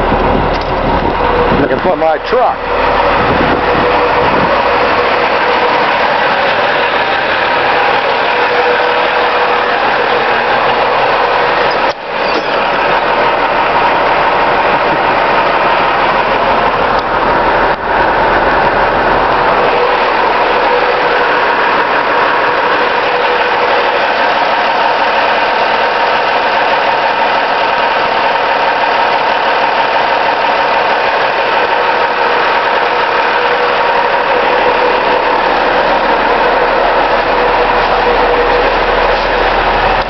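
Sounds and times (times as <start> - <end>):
garbage truck engine idling: 0.0 - 40.0
steady whine: 0.0 - 40.0.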